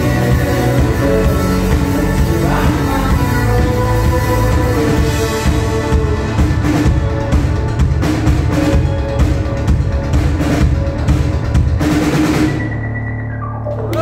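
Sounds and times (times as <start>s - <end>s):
heavy steady drumming: 0.0s - 12.8s
rock band playing: 0.0s - 14.0s.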